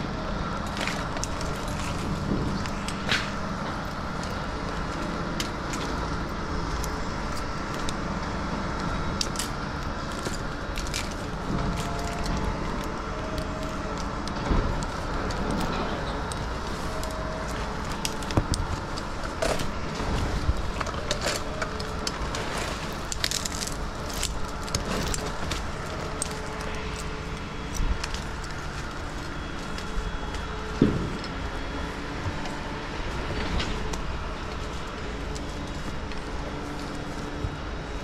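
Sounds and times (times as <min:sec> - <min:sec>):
crane engine running: 0:00.0 - 0:38.0.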